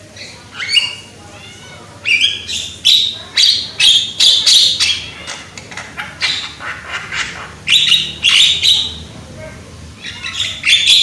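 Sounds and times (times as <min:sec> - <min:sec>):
myna harsh chattering calls: 0:00.2 - 0:09.1, 0:10.0 - 0:11.0.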